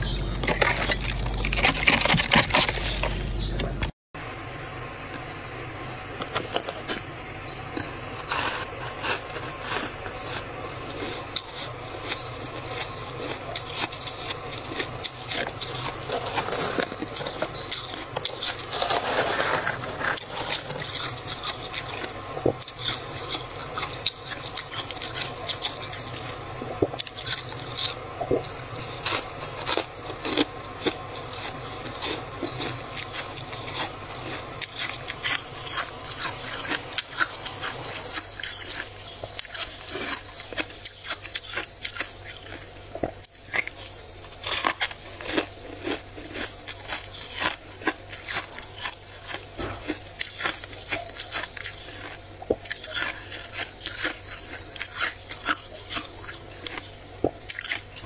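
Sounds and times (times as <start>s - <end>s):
frost crunching and crackling: 0.0s - 58.0s
steady high hiss: 4.2s - 58.0s.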